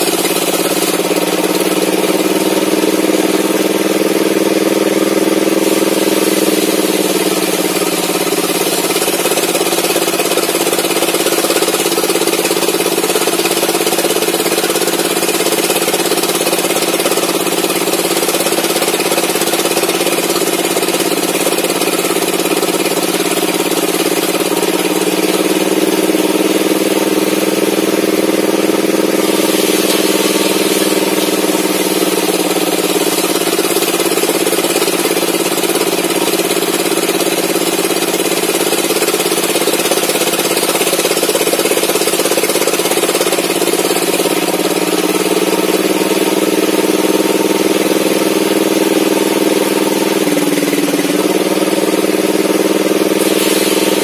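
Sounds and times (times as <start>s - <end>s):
table saw cutting wood: 0.0s - 54.0s.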